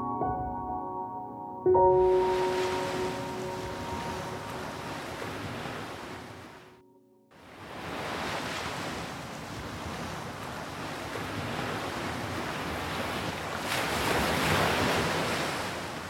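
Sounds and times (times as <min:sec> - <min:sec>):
sea waves washing: 0:01.9 - 0:06.8, 0:07.4 - 0:16.0.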